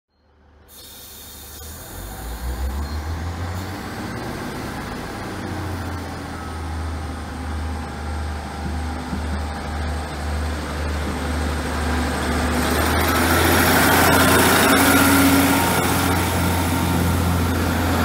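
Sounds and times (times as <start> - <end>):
diesel train engines rumbling: 0.3 - 18.0.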